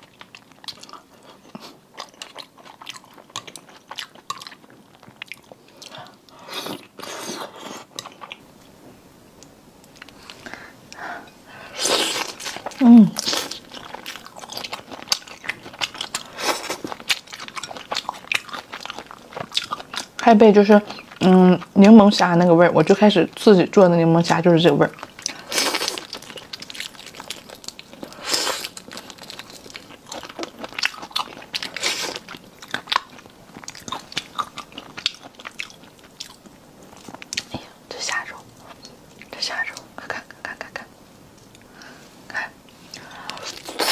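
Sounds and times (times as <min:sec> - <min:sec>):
person chewing crunchily: 0:00.0 - 0:20.2, 0:24.9 - 0:40.6, 0:42.8 - 0:43.9.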